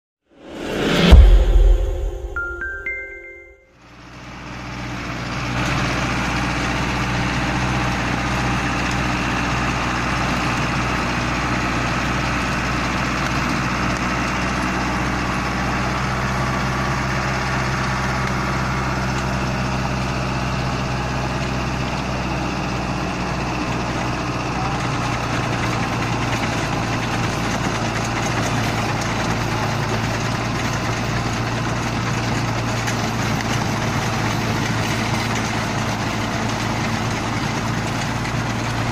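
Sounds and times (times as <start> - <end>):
tractor diesel engine under load: 3.8 - 38.9.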